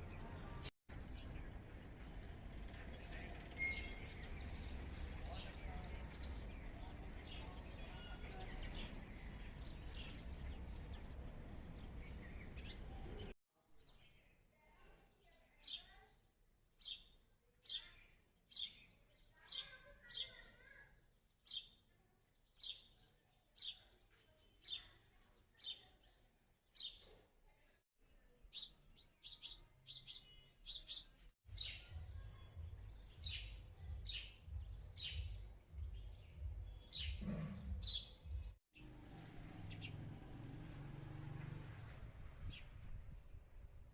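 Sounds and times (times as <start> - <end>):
sparrows chirping: 0.0 - 27.3, 28.1 - 43.4.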